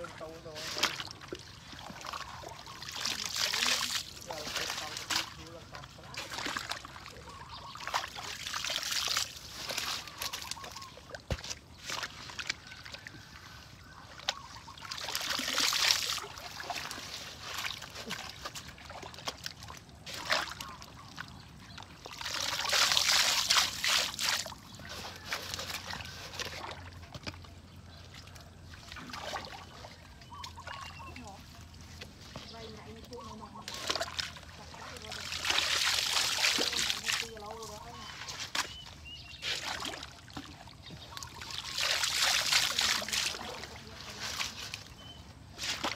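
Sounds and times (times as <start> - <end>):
water sloshing and splashing: 0.0 - 45.9.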